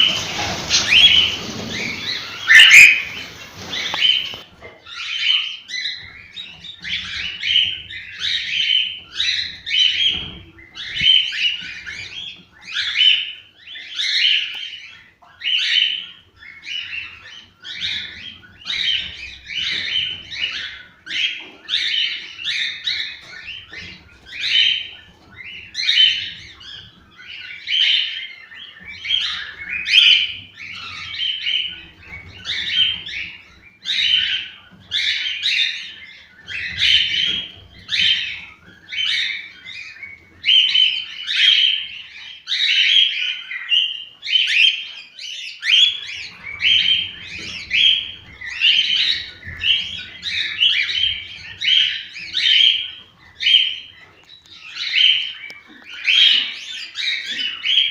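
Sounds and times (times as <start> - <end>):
cockatiels chirping: 0.0 - 57.9.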